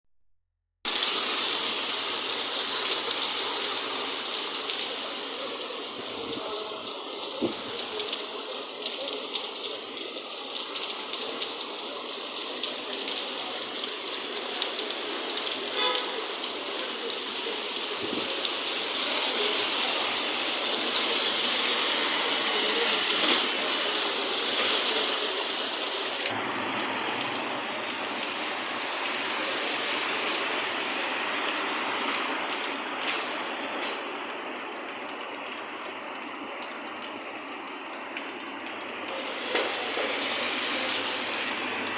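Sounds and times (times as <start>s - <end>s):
heavy rain pouring: 0.9s - 41.9s.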